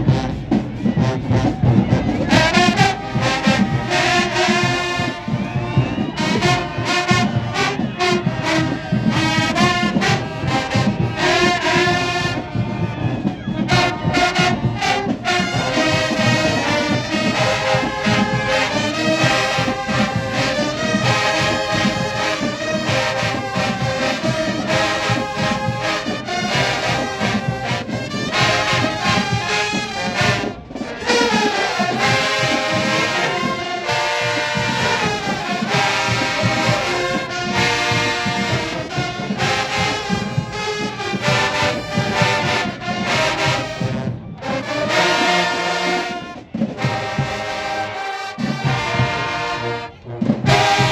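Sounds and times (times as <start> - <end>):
steady drum beat: 0.0 - 50.9
trombones and trumpets: 0.0 - 50.9.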